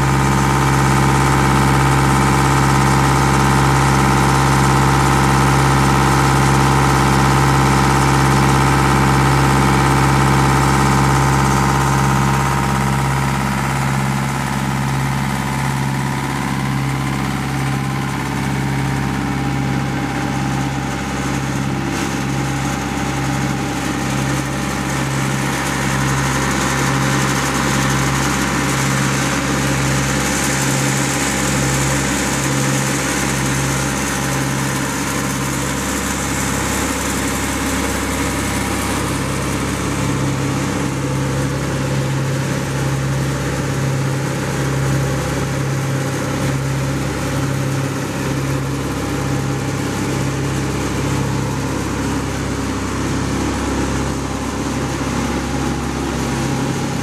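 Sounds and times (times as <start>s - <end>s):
wood chipper engine running: 0.0s - 57.0s.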